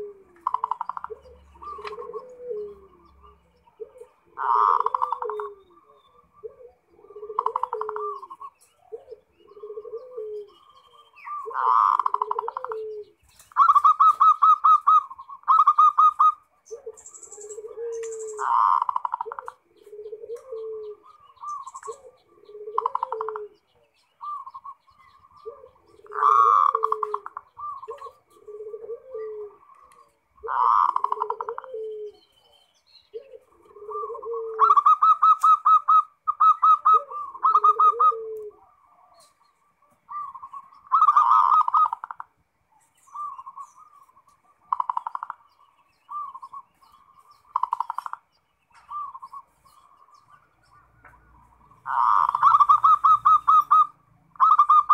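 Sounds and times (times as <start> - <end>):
doves trilled cooing: 0.0 - 54.9
lower repeated coo: 0.0 - 54.9.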